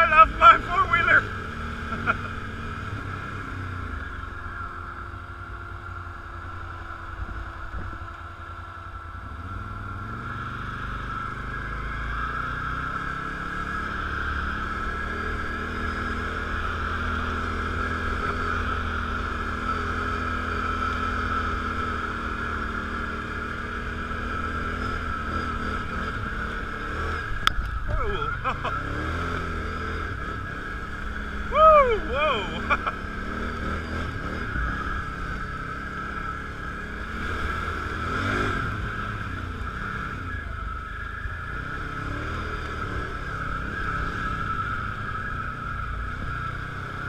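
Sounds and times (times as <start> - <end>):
atv engine running: 0.0 - 47.0.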